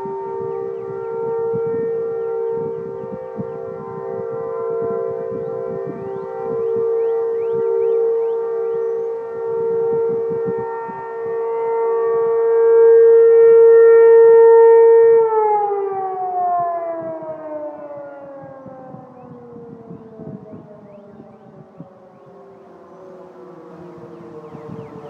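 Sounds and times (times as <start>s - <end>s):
warning sirens sounding a chord: 0.0s - 25.0s.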